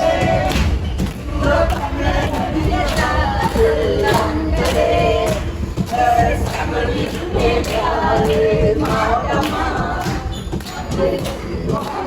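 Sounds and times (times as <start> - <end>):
steady low rumble: 0.0 - 12.0
voices singing together: 0.0 - 12.0.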